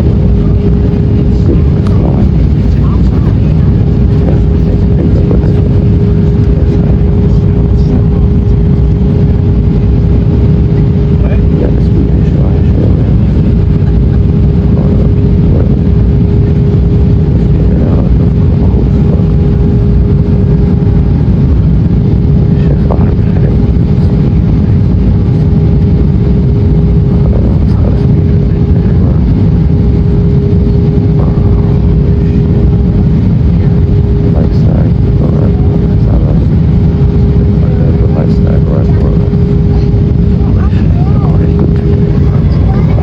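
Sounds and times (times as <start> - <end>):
airliner engine and airflow rumble: 0.0 - 43.0
constant hum tone: 0.0 - 43.0.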